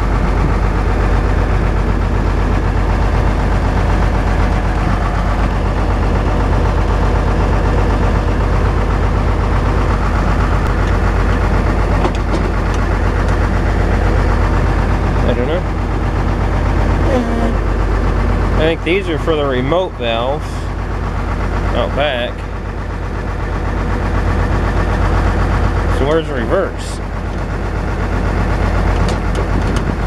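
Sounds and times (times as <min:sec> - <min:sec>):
tractor diesel engine idling: 0:00.0 - 0:30.0.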